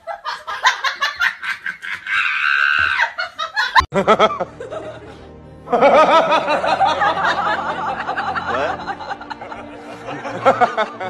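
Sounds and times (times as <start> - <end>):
laughter-like sounds: 0.0 - 11.0.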